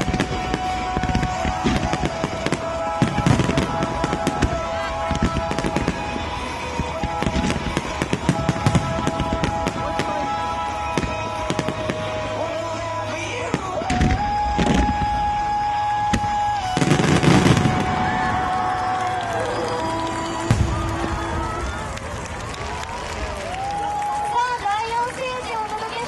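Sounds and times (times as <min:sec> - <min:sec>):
music over loudspeakers: 0:00.0 - 0:21.9
fireworks bursting and crackling: 0:00.0 - 0:26.0.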